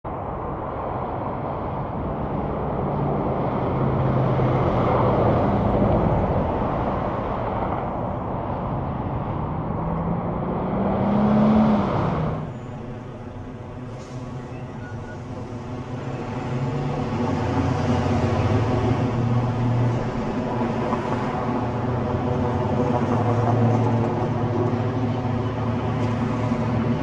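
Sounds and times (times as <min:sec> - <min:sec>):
vehicles passing on highway: 0:00.0 - 0:27.0.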